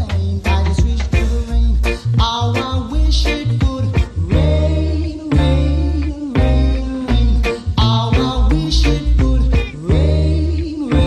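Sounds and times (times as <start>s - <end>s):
man singing over a band: 0.0s - 11.0s.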